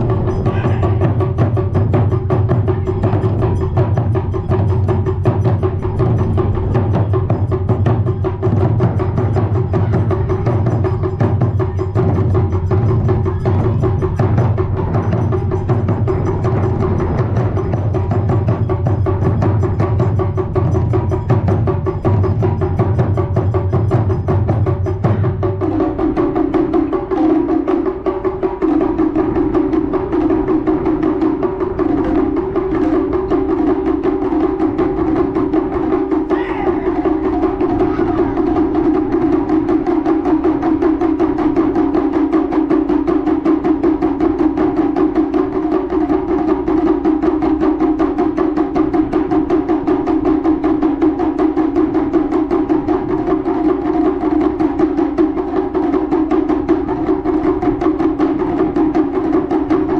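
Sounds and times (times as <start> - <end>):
taiko drums: 0.0 - 59.9.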